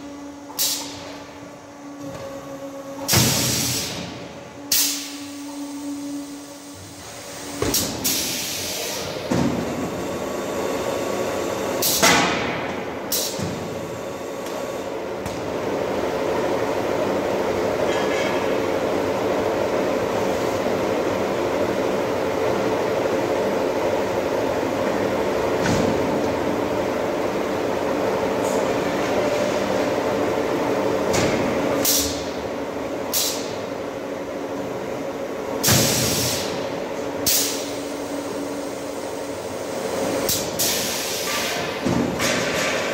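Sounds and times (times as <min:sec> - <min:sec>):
machine motors humming: 0:00.0 - 0:42.9.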